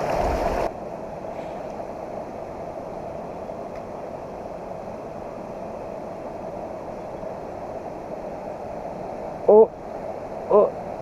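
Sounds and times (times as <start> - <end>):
fast-flowing stream rushing: 0.0 - 11.0.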